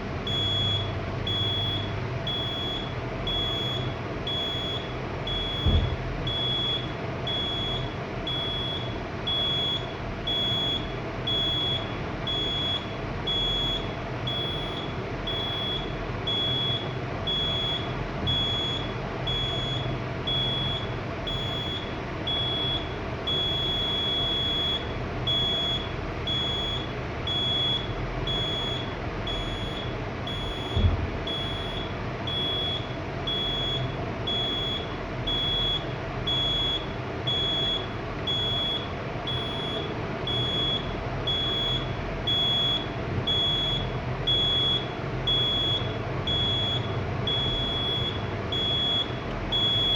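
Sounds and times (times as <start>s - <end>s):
fire alarm buzzer beeping: 0.2s - 49.9s.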